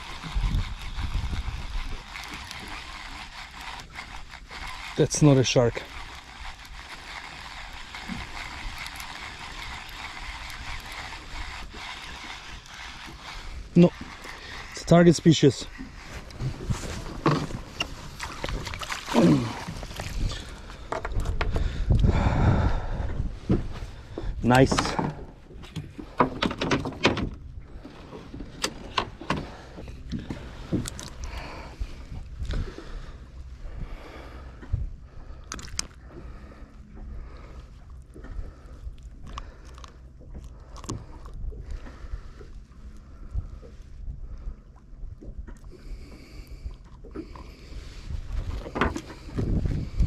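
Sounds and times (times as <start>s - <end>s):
fishing reel gears whirring: 0.0s - 23.2s, 27.6s - 50.0s.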